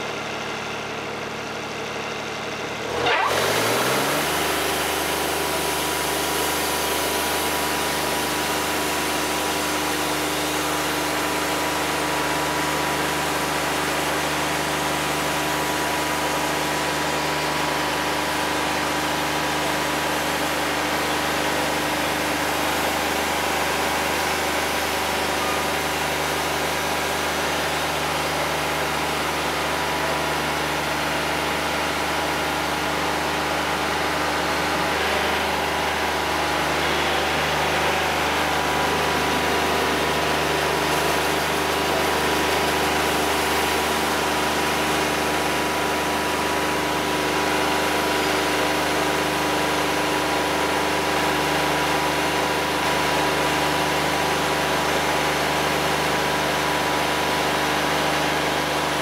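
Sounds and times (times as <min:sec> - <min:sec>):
sawmill engine droning: 0:00.0 - 0:59.0.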